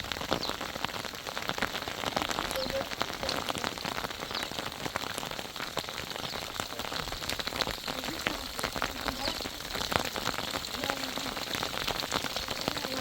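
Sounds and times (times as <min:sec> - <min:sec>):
heavy rain patter: 0:00.0 - 0:13.0.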